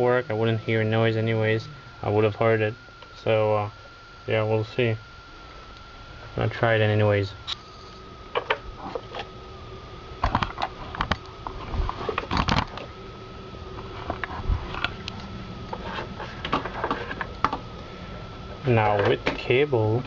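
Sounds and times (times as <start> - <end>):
faint steady tone: 0.0 - 11.5, 12.8 - 20.0.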